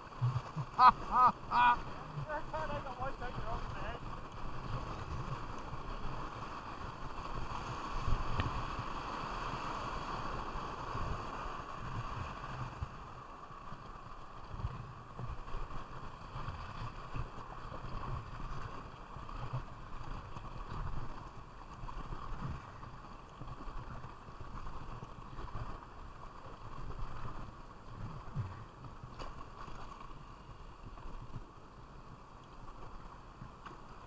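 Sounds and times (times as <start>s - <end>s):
river water rushing and splashing: 0.0s - 34.0s.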